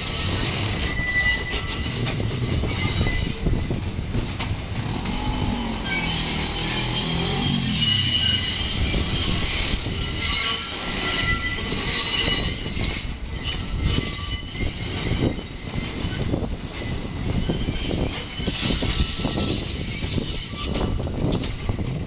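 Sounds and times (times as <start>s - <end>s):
low train rumble: 0.0s - 22.0s
train wheels squealing: 0.0s - 22.0s
wheels clacking over rail joints: 0.0s - 22.0s.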